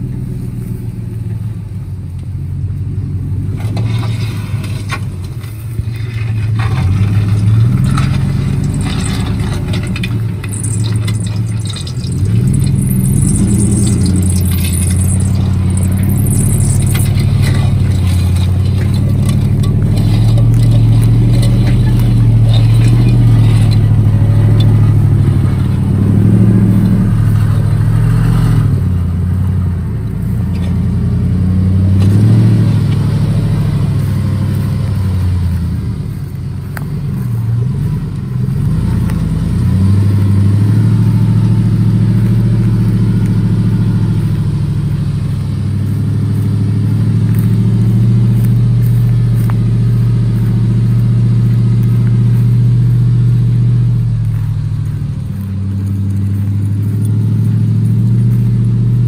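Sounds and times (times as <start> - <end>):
truck engine pulling under load: 0.0 - 59.0.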